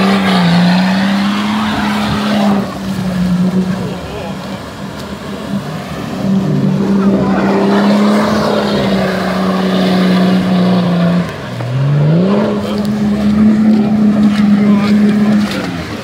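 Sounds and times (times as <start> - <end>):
suv engine revving: 0.0 - 16.0
wheels churning through mud and water: 0.0 - 16.0.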